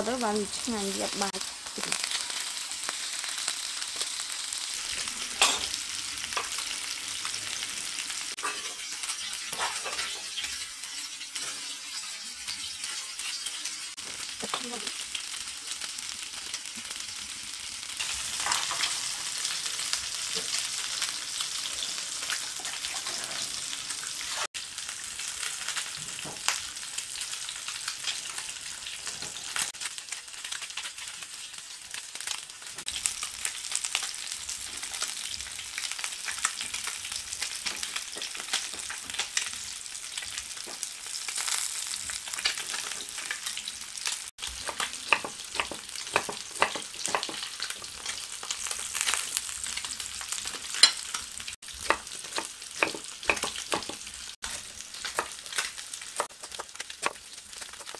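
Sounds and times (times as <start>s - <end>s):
food sizzling in hot oil: 0.0s - 57.9s.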